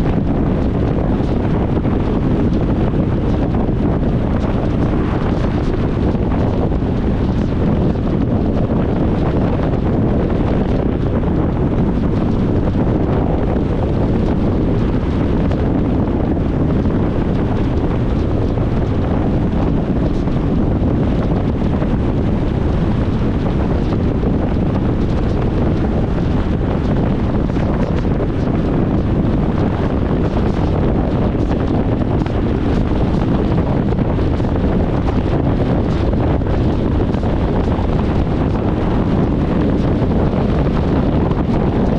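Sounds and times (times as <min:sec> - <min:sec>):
car interior rumble: 0:00.0 - 0:41.9.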